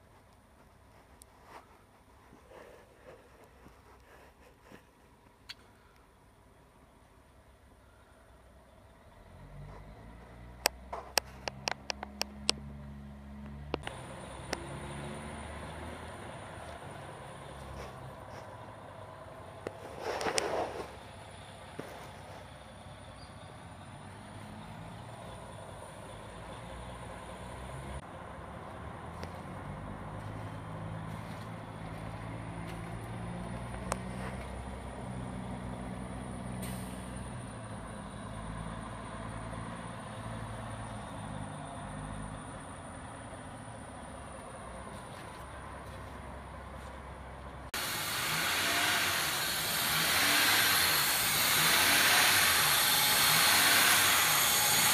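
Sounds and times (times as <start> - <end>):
vehicle engine humming: 0.0 - 54.9.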